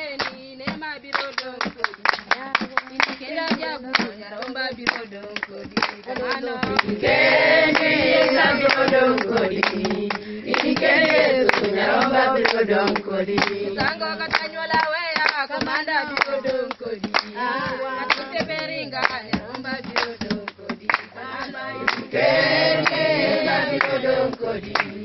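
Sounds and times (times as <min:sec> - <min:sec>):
hands clapping: 0:00.0 - 0:25.0
women singing a worship song: 0:00.0 - 0:25.0.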